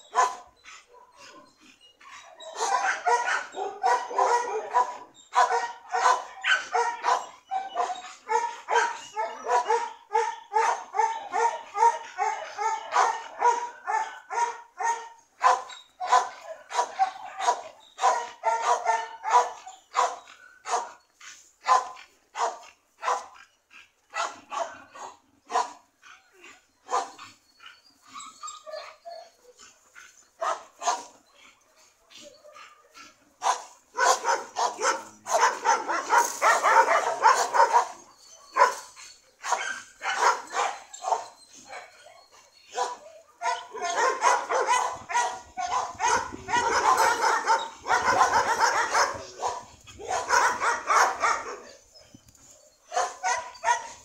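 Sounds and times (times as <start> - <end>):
dog barking: 0.1 - 1.4, 2.4 - 21.0, 21.6 - 23.4, 24.1 - 25.8, 26.9 - 27.2, 30.4 - 31.2, 32.2 - 38.8, 39.4 - 42.0, 42.7 - 51.8, 52.9 - 54.0.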